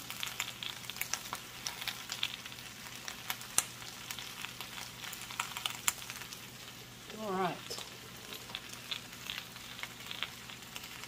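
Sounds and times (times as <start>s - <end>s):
cabbage sizzling in a frying pan: 0.0s - 11.0s.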